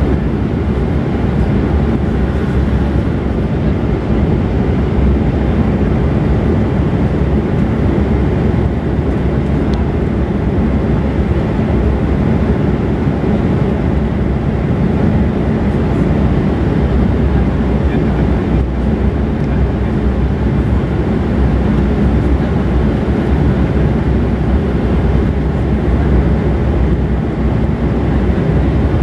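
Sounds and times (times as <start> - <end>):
jet cabin engine noise: 0.0 - 29.0.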